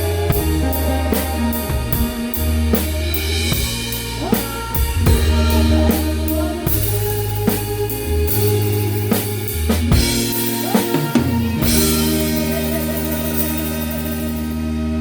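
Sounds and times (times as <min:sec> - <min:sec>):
drum kit hits: 0:00.0 - 0:14.6
live band playing: 0:00.0 - 0:15.0.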